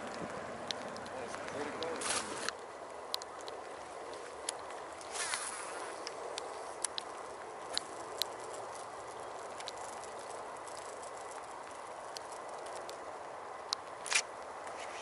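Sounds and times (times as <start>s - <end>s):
sharp ticks: 0.0s - 14.5s
light rain pattering: 0.0s - 15.0s.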